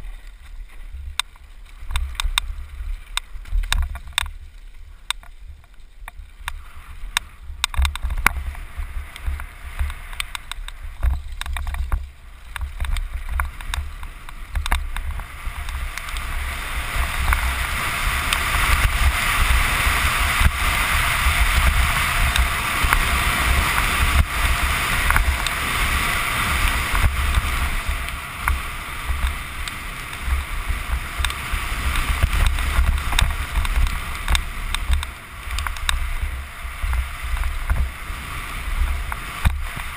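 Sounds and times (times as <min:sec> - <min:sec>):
bike rattling over bumps: 0:00.0 - 0:39.9
wind buffeting microphone: 0:05.1 - 0:39.9.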